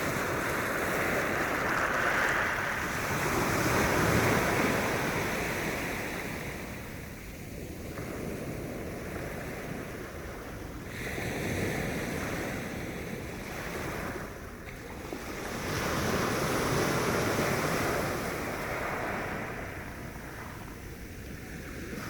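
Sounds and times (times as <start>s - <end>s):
sea waves washing onto shore: 0.0s - 22.0s.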